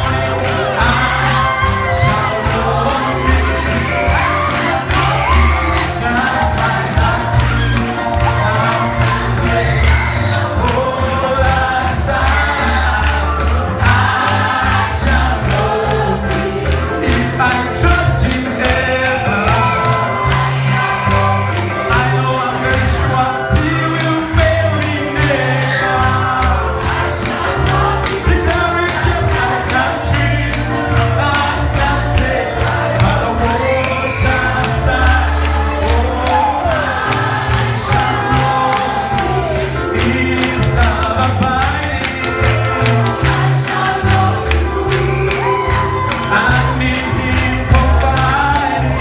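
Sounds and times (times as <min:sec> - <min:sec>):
amplified band with heavy bass: 0:00.0 - 0:49.0
choir singing gospel: 0:00.0 - 0:49.0
steady drum beat: 0:00.0 - 0:49.0.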